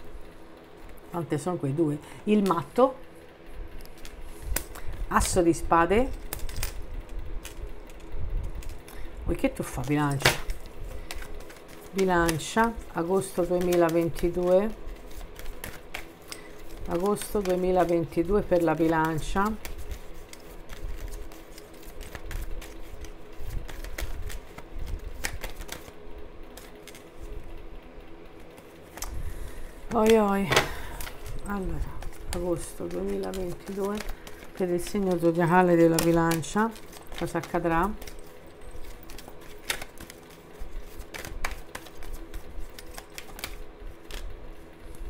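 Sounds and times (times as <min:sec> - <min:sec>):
steady low hum: 0:00.0 - 0:45.0
cards shuffling: 0:03.8 - 0:27.5, 0:28.3 - 0:45.0.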